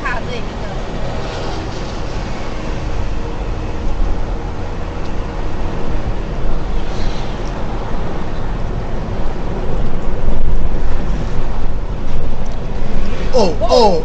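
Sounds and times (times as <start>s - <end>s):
low rumble of car: 0.0s - 14.0s
road noise: 0.0s - 14.0s
wind noise: 0.0s - 14.0s.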